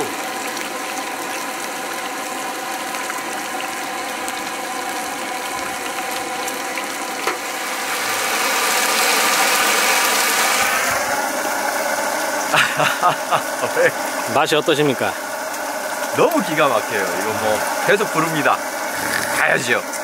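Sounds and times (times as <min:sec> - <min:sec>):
pork sizzling in a pan: 0:00.0 - 0:20.0
engine humming: 0:03.7 - 0:20.0.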